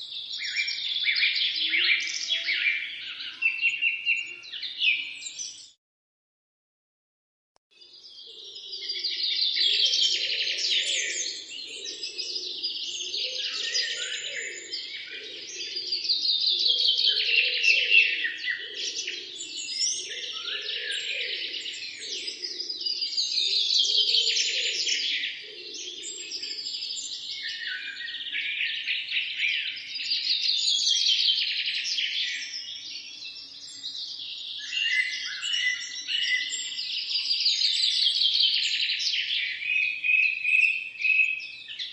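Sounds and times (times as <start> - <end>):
small birds chirping: 0.0 - 5.8, 7.8 - 41.9.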